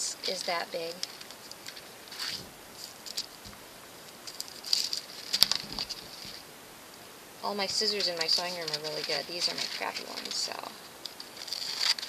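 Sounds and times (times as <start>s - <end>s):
paper rustling: 0.2s - 6.4s, 7.6s - 12.0s.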